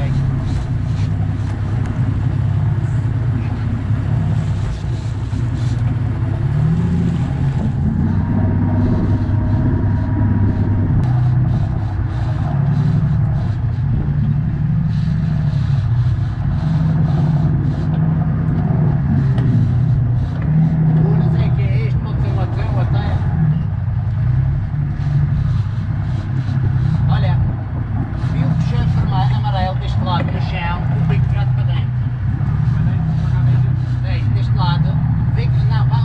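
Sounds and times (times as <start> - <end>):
boat engines rumbling: 0.0 - 36.0
wind: 0.0 - 36.0.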